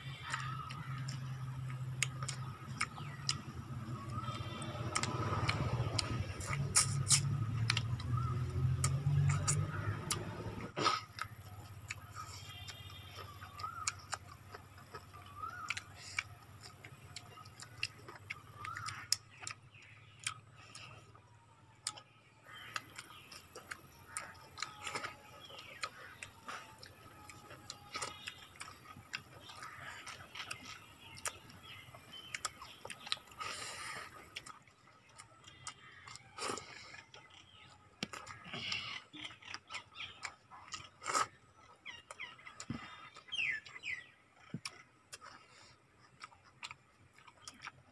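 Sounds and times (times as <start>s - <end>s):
lip smacks and wet chewing: 0.0s - 47.9s.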